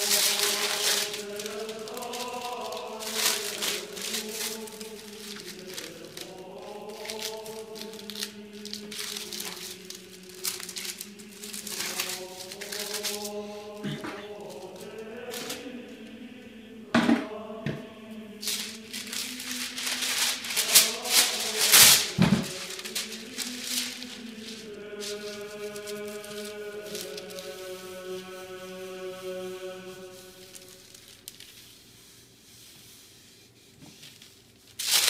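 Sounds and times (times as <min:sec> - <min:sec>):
paper rustling: 0:00.0 - 0:16.1, 0:17.9 - 0:35.0
choral chant: 0:00.0 - 0:31.3.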